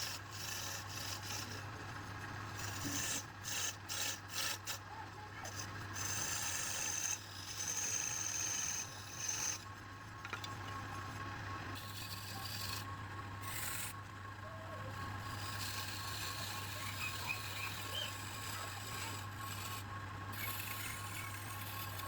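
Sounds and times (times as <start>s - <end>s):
lathe tool scraping wood: 0.0s - 22.0s
steady low hum: 0.0s - 22.0s.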